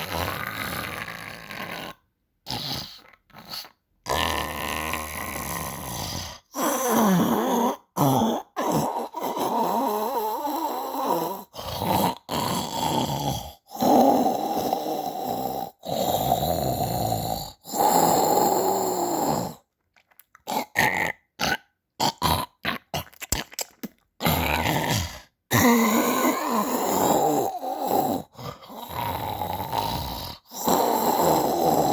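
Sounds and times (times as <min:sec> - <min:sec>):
person snoring: 0:00.0 - 0:19.6, 0:24.2 - 0:31.9.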